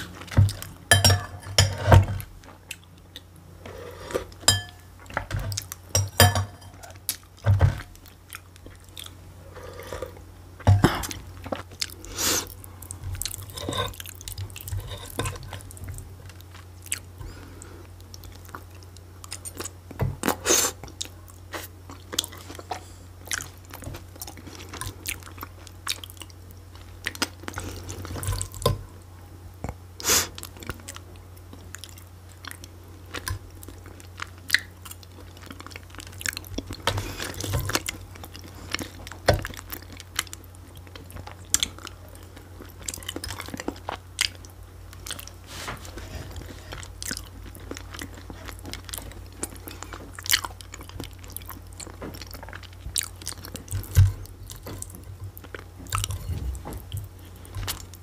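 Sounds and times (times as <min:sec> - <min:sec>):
steady low hum: 0:00.0 - 0:58.0
chewing and wet mouth sounds: 0:02.2 - 0:03.5, 0:04.1 - 0:28.8, 0:29.5 - 0:58.0.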